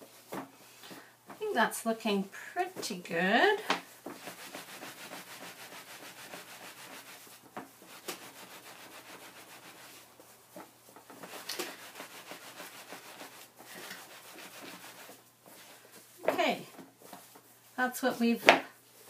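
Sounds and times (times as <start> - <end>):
hands scrubbing wet felt on mat: 2.7 - 19.0.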